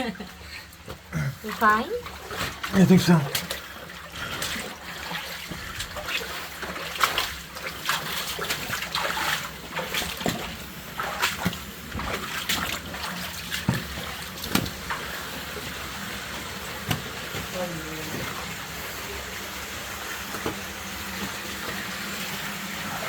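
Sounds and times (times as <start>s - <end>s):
people wading through water: 0.0s - 22.4s
trickling water: 0.0s - 23.0s.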